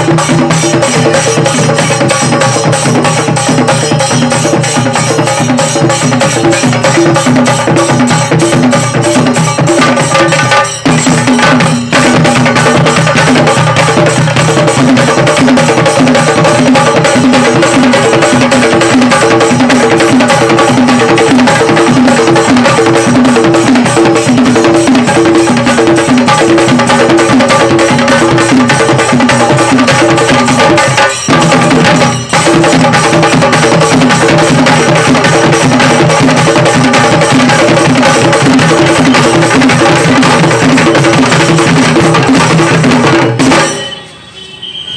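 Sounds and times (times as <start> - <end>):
drums beaten fast with sticks: 0.0 - 44.0.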